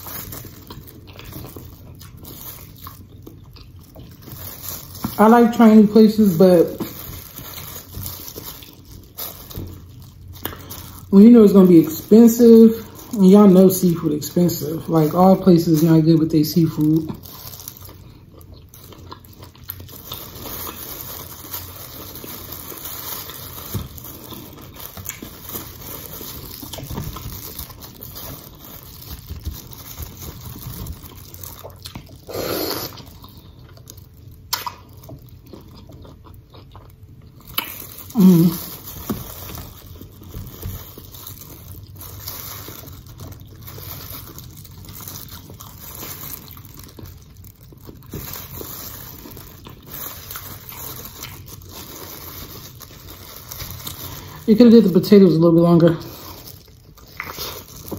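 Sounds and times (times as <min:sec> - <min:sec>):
person chewing food: 0:00.0 - 0:05.4, 0:06.7 - 0:11.1, 0:16.9 - 0:54.5, 0:56.1 - 0:57.9.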